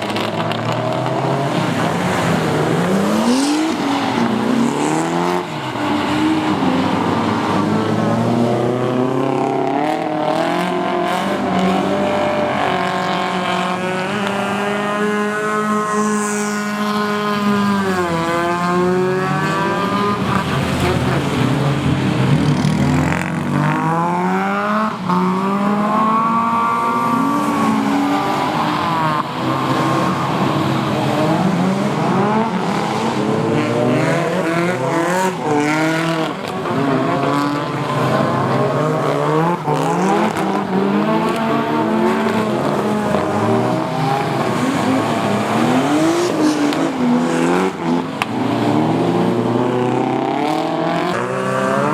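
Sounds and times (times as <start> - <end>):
car engines revving: 0.0 - 51.9.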